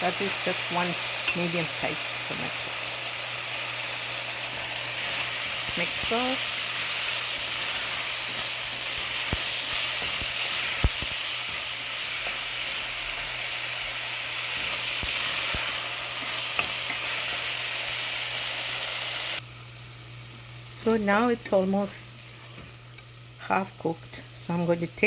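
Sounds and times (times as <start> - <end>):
onion and tomato sizzling in oil: 0.0 - 25.0.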